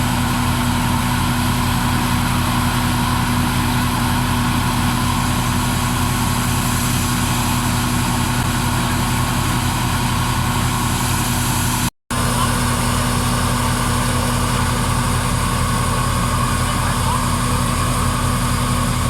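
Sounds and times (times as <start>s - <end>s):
tractor and thresher running: 0.0s - 19.0s.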